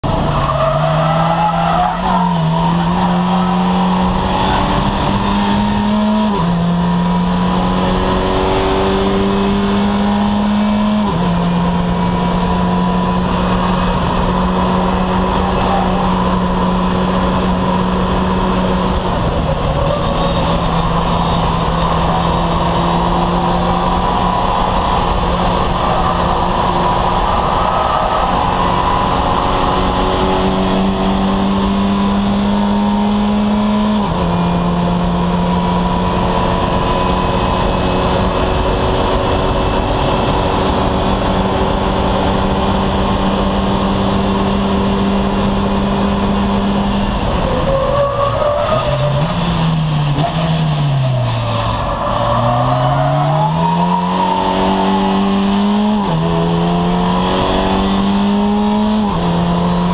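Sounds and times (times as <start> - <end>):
race car engine under load: 0.0 - 59.9
road and wind noise: 0.0 - 59.9.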